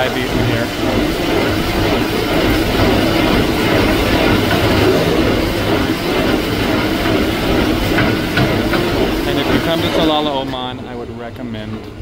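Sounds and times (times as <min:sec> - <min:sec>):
kitchen machinery rumble: 0:00.0 - 0:12.0.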